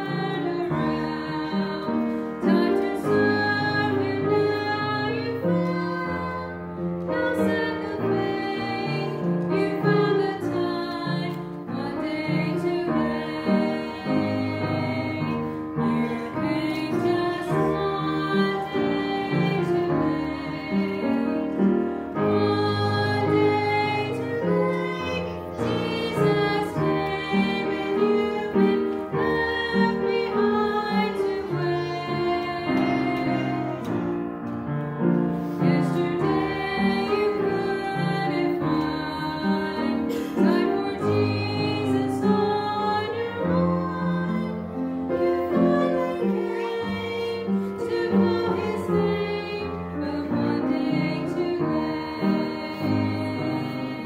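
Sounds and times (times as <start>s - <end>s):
women singing gospel: 0.0s - 34.2s, 35.4s - 54.0s
instrumental accompaniment: 0.0s - 54.0s.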